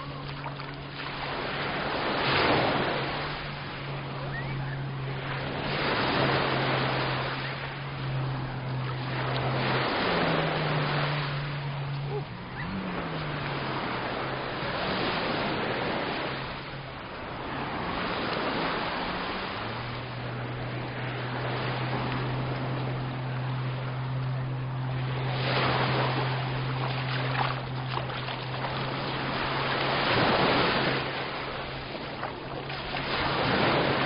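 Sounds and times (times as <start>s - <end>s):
low motor hum: 0.0s - 34.0s
sea waves breaking on beach: 0.0s - 34.0s.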